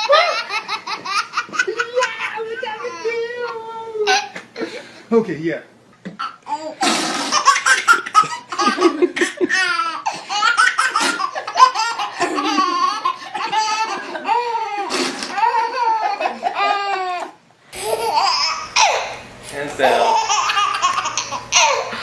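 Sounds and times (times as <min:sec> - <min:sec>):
baby laughing: 0:00.0 - 0:03.2, 0:06.2 - 0:22.0.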